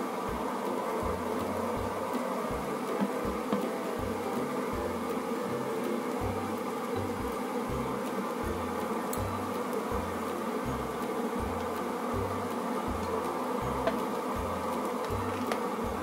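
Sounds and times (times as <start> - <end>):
faint ticks: 0.0 - 16.0
onions sizzling in a frying pan: 1.1 - 16.0.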